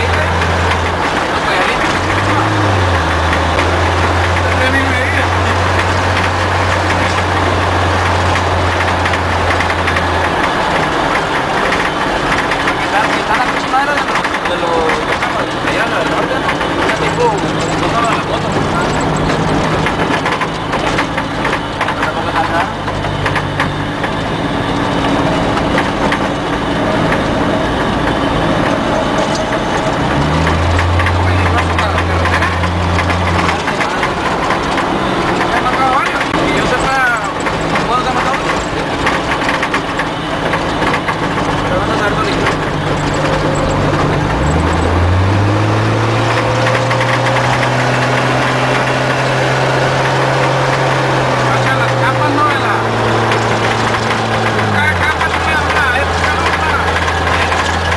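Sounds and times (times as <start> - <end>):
interior rattles and creaks: 0.0 - 57.9
tyre and road noise: 0.0 - 57.9
vehicle engine running: 0.0 - 57.9.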